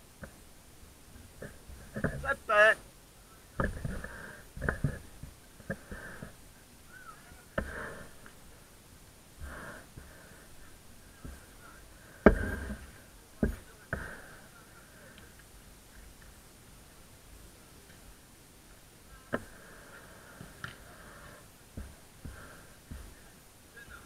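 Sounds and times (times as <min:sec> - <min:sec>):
faint distant calls: 0:00.0 - 0:24.0.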